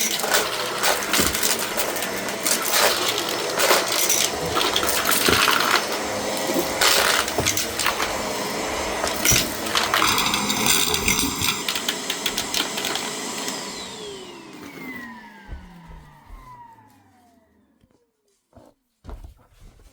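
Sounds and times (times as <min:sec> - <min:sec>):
debris rattling in vacuum: 0:00.0 - 0:16.4
vacuum cleaner running: 0:00.0 - 0:18.4.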